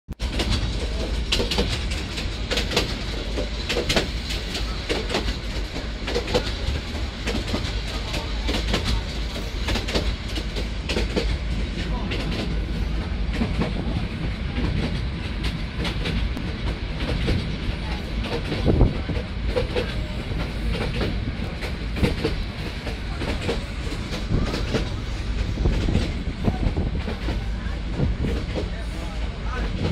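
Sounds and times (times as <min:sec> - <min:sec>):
train rumbling on track: 0:00.1 - 0:29.9.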